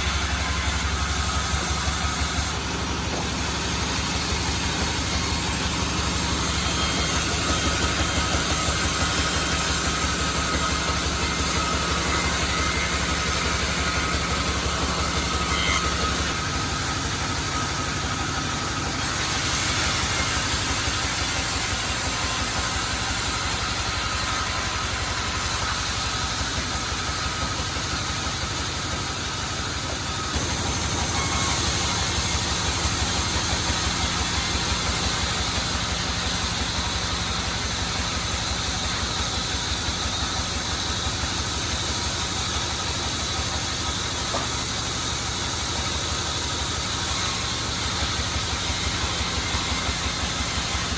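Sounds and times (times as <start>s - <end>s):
saw hiss: 0.0s - 50.9s.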